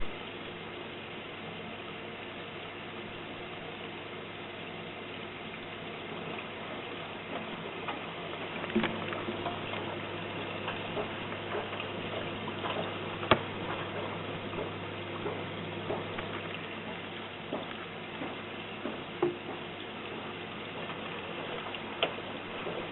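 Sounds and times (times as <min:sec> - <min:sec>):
washing machine hum: 0:00.0 - 0:22.9
water sloshing in drum: 0:00.0 - 0:22.9.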